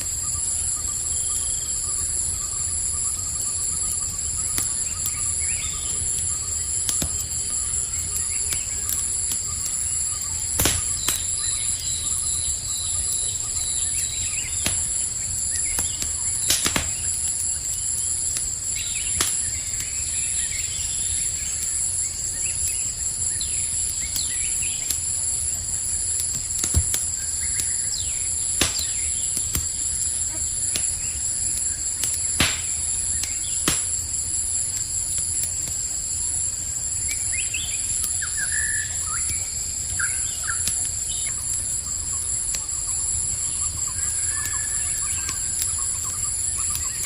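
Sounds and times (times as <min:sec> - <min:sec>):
campfire crackling and popping: 0:00.0 - 0:47.0
crickets trilling: 0:00.0 - 0:47.0.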